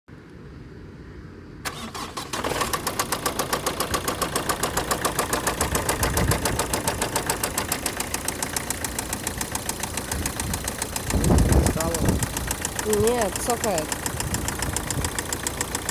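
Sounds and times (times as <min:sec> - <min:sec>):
diesel engine starting and idling: 0:01.6 - 0:15.9
rapid engine knock: 0:02.5 - 0:15.9.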